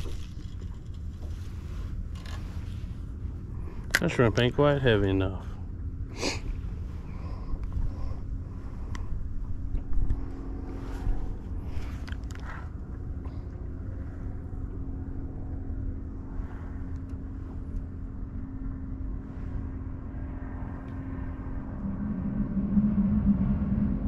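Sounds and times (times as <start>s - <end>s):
low motor hum: 0.0s - 24.0s
wind rumble on microphone: 0.0s - 24.0s.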